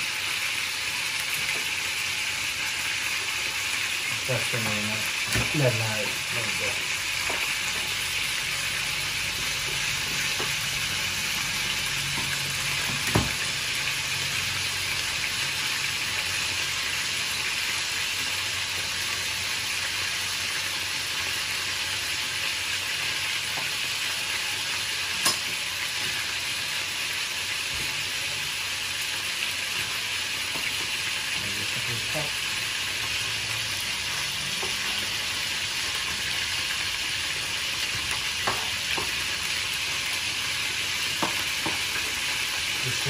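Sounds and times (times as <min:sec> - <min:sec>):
fish sizzling in oil: 0:00.0 - 0:43.0.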